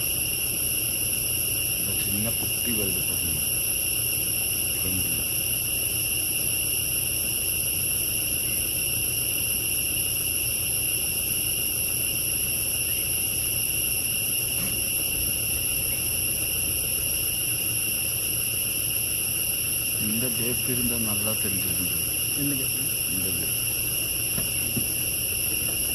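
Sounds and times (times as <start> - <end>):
insect chorus drone: 0.0 - 25.9
low steady hum: 0.0 - 25.9.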